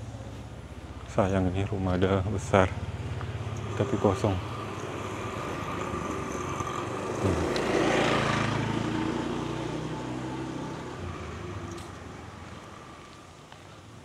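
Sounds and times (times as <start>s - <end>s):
motorbike engine passing by: 0.0s - 13.4s.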